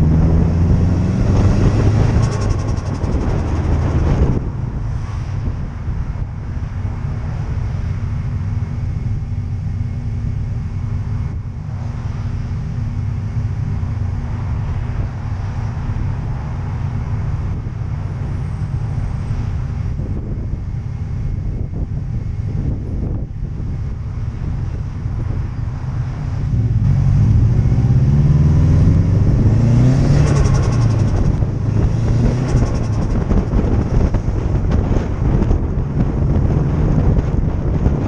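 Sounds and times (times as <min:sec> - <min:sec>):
car engine droning: 0:00.0 - 0:38.0
road and wind noise: 0:00.0 - 0:38.0.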